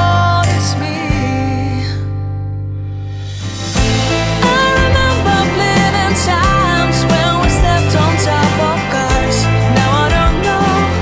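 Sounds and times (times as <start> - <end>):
pop-rock song with guitar: 0.0 - 11.0.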